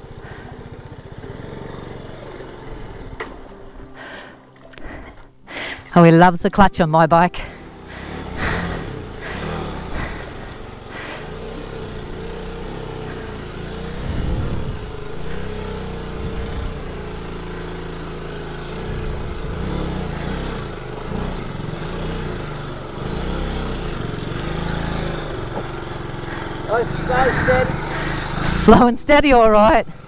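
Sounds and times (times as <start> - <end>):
motorcycle engine at low revs: 0.0 - 5.3, 7.4 - 30.0.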